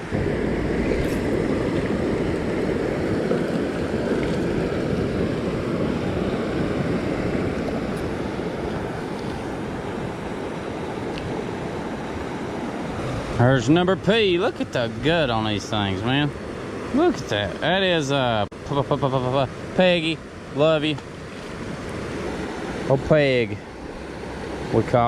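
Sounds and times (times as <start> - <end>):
creek water over rocks: 0.8 - 25.0.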